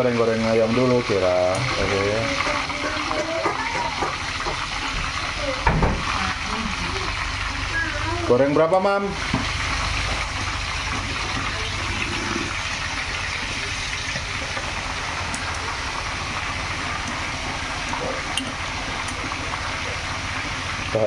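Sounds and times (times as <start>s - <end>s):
oil sizzling in a wok: 0.0s - 21.0s.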